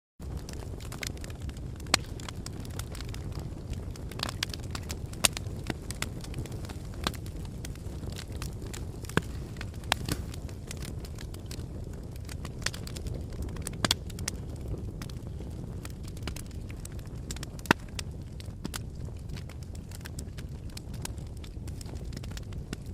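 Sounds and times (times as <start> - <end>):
fire crackling: 0.2 - 22.9.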